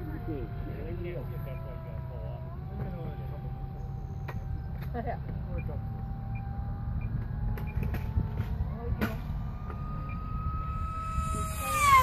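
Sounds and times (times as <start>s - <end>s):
model plane propeller whining: 0.0s - 12.0s.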